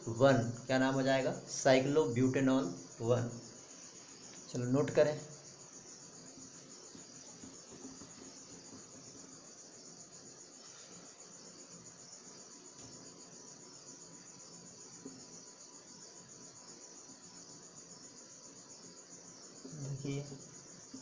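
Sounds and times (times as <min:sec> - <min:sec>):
cricket trilling: 0:00.0 - 0:21.0.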